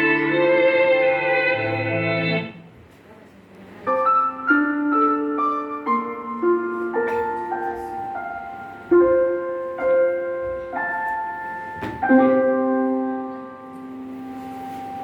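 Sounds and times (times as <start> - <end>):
slow piano chords: 0.0 - 2.7, 3.8 - 15.0.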